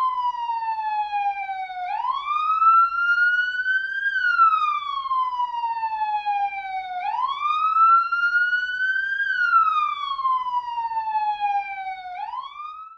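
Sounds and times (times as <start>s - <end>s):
police siren wailing: 0.0s - 12.9s.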